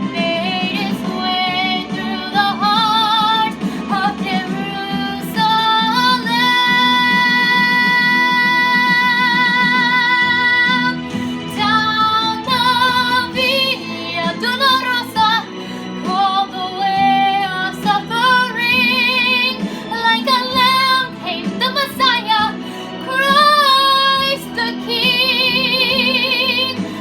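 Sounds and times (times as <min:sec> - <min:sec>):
instrumental accompaniment: 0:00.0 - 0:27.0
woman singing a slow ballad: 0:00.0 - 0:27.0.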